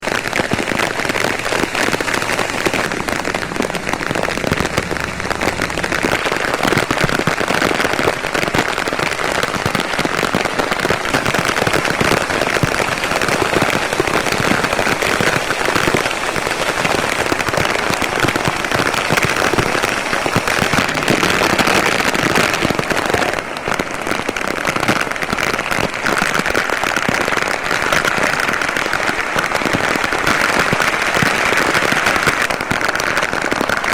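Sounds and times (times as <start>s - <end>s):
heavy rain on hard surfaces: 0.0s - 33.9s.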